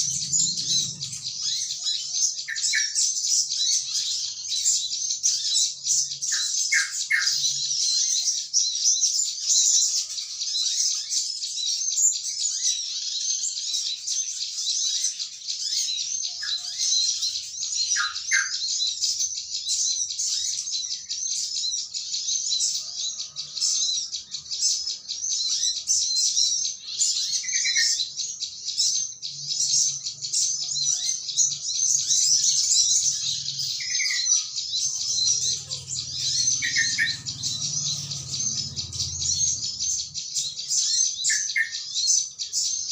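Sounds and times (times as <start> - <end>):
small birds chattering: 0.0 - 42.9.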